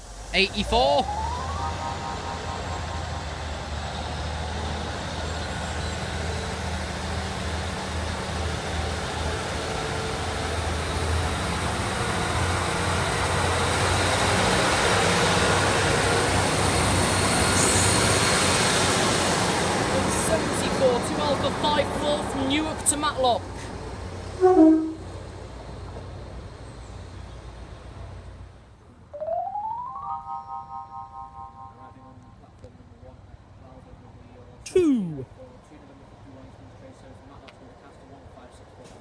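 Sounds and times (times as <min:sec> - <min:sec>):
diesel train engines droning: 0:00.0 - 0:29.1, 0:30.0 - 0:34.6.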